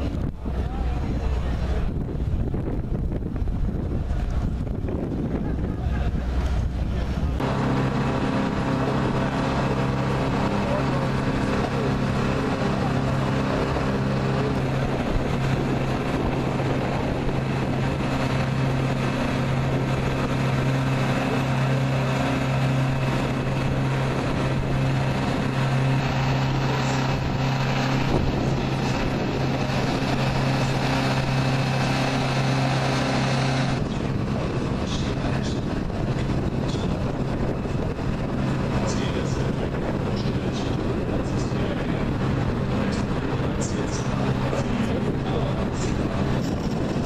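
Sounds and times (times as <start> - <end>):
low machine hum: 0.0 - 47.0
wind buffeting microphone: 0.0 - 47.0.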